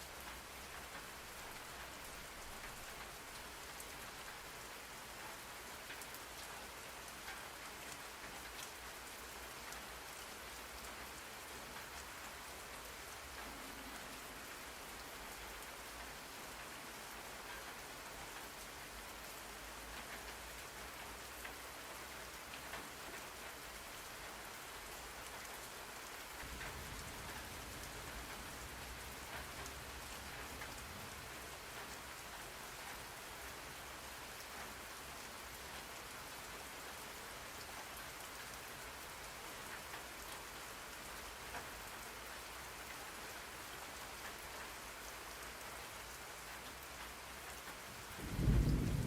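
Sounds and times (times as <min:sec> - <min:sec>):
rain pattering on a surface: 0:00.0 - 0:49.0.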